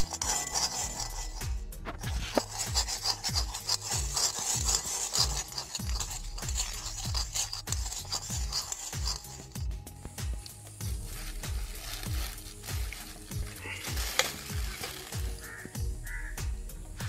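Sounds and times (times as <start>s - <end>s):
metal spoon scraping metal bowl: 0.0s - 16.3s
background music with low beat: 0.0s - 17.0s.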